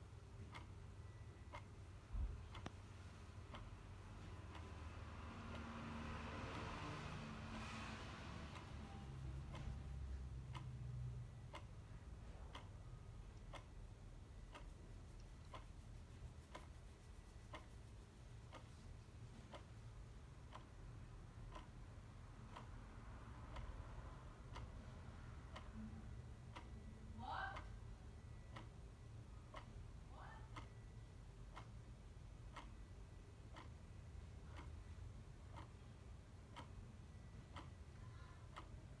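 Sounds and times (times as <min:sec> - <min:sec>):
clock ticking: 0:00.0 - 0:39.0.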